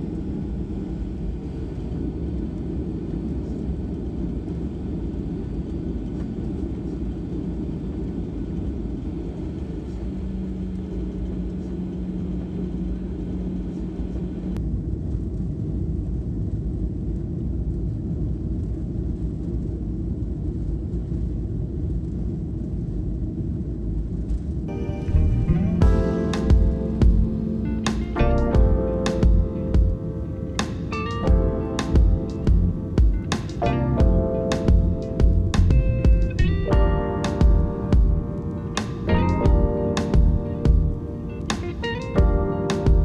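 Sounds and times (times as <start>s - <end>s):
steady hum: 0.0s - 15.9s, 18.2s - 43.0s
jet engine rumble in cabin: 0.0s - 43.0s.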